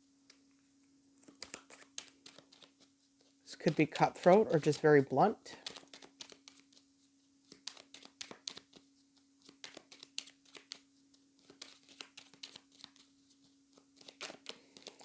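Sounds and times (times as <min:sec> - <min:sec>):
cards rustling and clicking: 0:01.2 - 0:06.8, 0:07.4 - 0:15.0.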